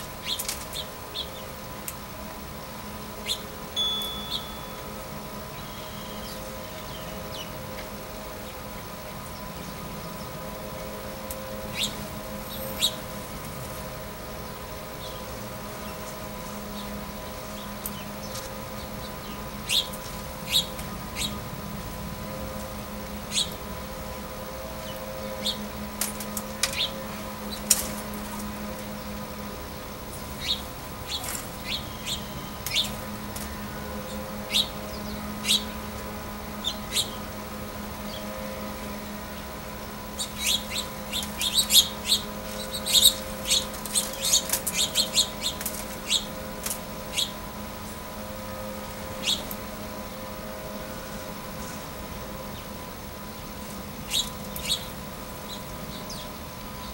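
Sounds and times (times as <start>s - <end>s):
small songbirds chirping: 0.0s - 56.9s
steady low hum: 0.0s - 56.9s.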